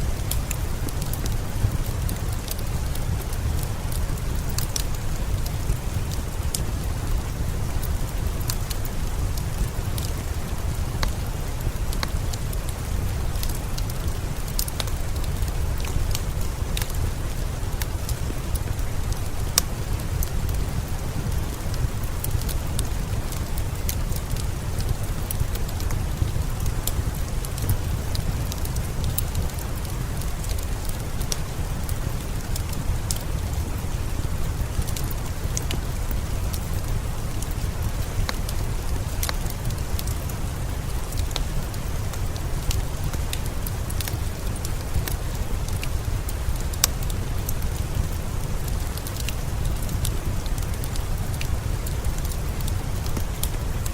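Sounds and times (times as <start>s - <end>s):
steady rain: 0.0s - 53.9s
wood fire crackling: 0.0s - 53.9s.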